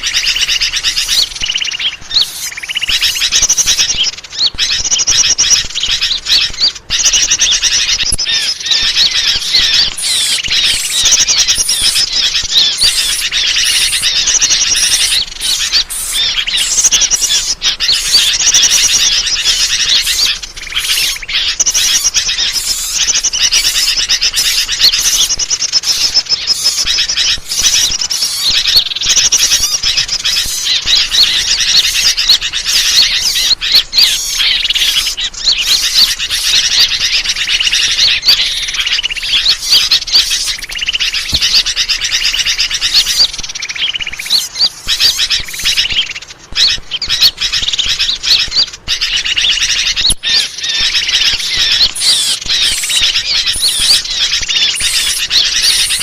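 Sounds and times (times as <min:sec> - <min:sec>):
songbirds chirping and squeaking: 0:00.0 - 0:56.0.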